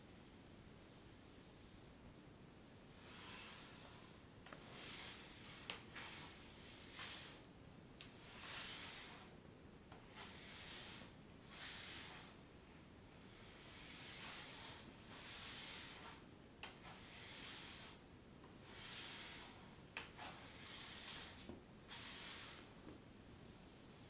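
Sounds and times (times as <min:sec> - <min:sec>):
brush sweeping floor: 0:02.9 - 0:24.0.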